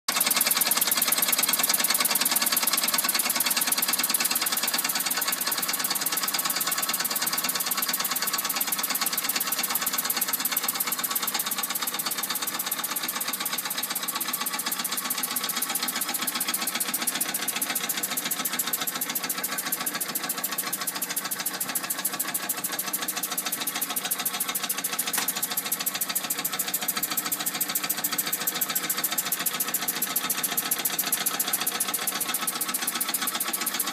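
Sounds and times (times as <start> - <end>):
toy steam engine running: 0.1 - 33.9.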